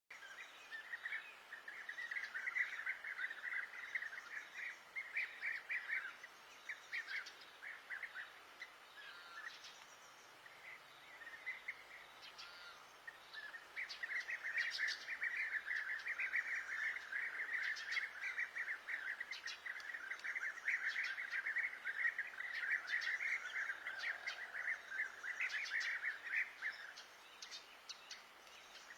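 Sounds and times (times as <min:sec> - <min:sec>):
songbird twittering song: 0:00.1 - 0:28.9.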